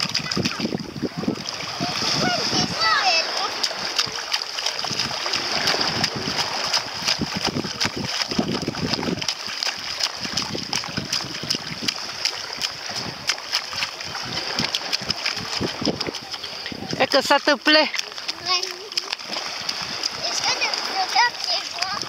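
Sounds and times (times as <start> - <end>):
bare feet splashing in shallow water: 0.0 - 22.0.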